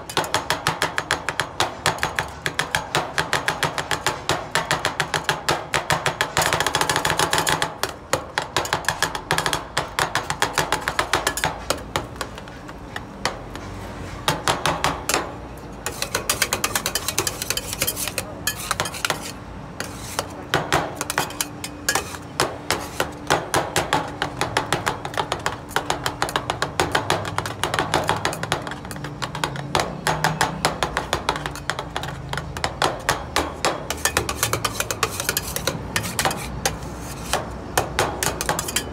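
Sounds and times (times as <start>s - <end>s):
metal spatulas clacking on steel plate: 0.0s - 11.8s, 15.8s - 38.9s.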